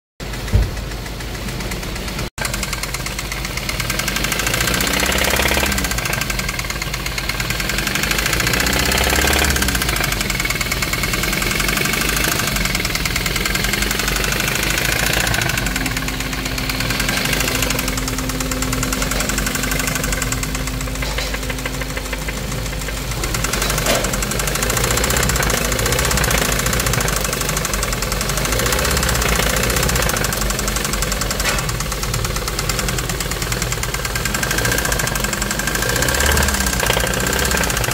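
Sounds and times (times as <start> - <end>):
engine running with rapid clatter: 0.2 - 37.9.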